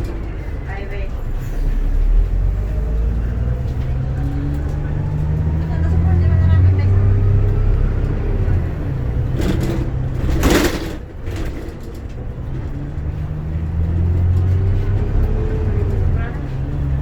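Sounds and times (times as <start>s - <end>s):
bus engine hum: 0.0s - 17.0s.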